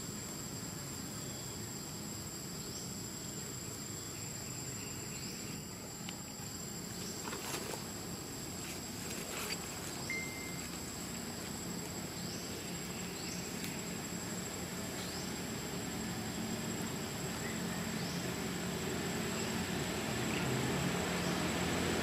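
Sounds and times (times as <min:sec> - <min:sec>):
insect buzzing: 0:00.0 - 0:22.0
rising insect chirps: 0:00.0 - 0:22.0.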